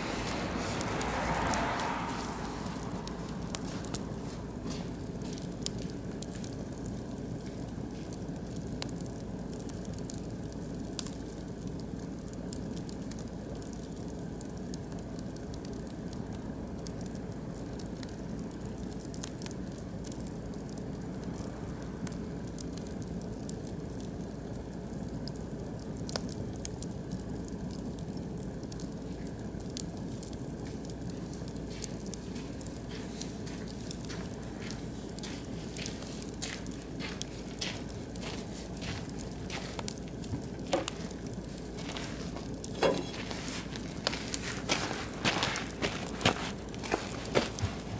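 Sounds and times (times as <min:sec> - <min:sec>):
low rush of fire: 0:00.0 - 0:47.9
wood fire crackling and popping: 0:00.0 - 0:47.9.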